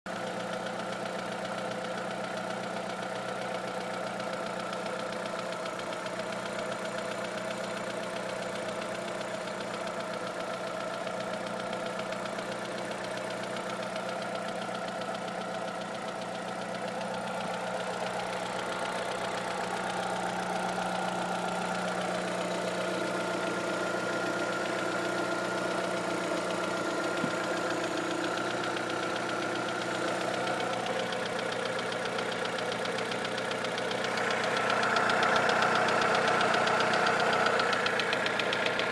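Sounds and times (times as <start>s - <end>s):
car engine running: 0.1s - 38.9s
rapid engine tapping: 0.1s - 38.9s.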